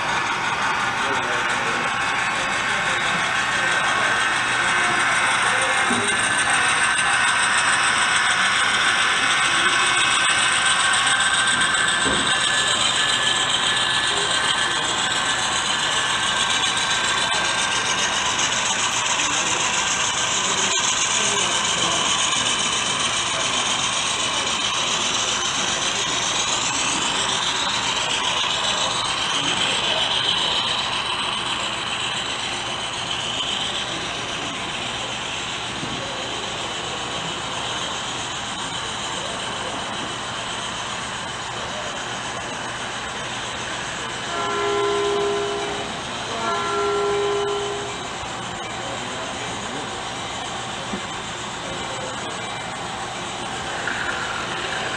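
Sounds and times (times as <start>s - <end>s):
model train motor whirring: 0.0s - 54.9s
small wheels clicking on track: 0.0s - 54.9s.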